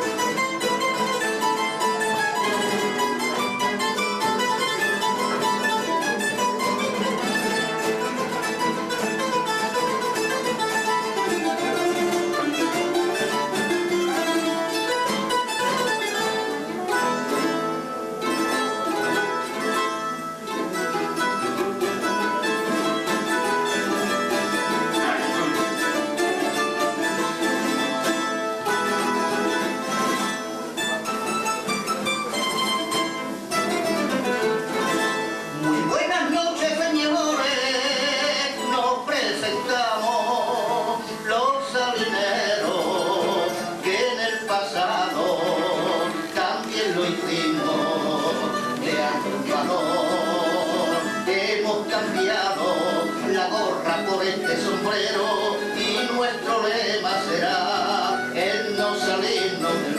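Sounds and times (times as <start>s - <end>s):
plucked string trio playing: 0.0s - 59.9s.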